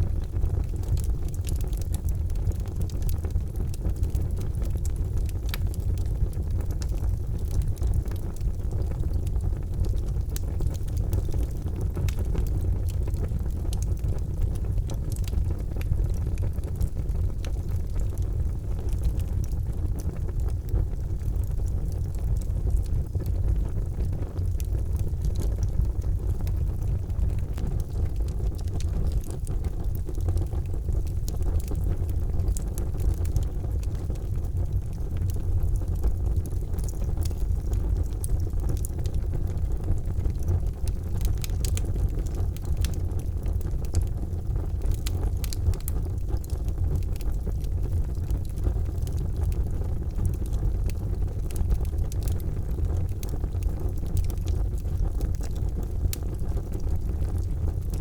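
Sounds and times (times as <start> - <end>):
charcoal fire rushing: 0.0 - 58.0
fire crackles and pops: 0.0 - 58.0.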